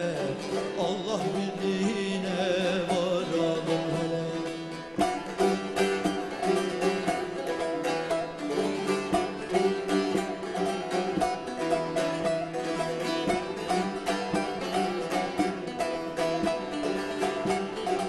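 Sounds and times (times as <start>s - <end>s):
long-necked lutes playing folk music: 0.0s - 18.0s.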